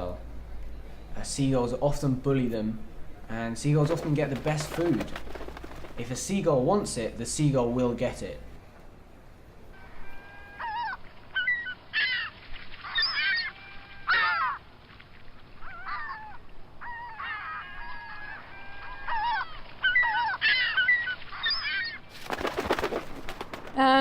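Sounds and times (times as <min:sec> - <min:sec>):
gulls calling: 0:02.8 - 0:08.5, 0:09.5 - 0:24.0.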